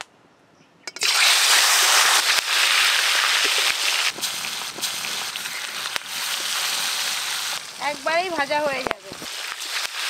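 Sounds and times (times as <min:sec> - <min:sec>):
fish sizzling in oil: 0:01.0 - 0:10.0.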